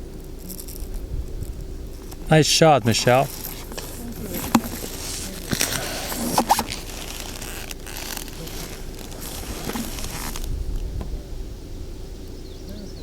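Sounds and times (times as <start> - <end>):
rustling and handling noise: 0.2 - 10.9.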